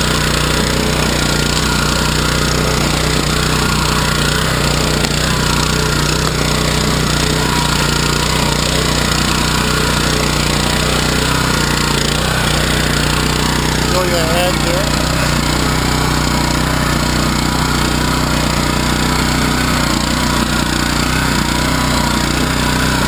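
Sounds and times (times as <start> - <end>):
rotary tiller in soil: 0.0 - 23.0
small tractor engine running: 0.0 - 23.0.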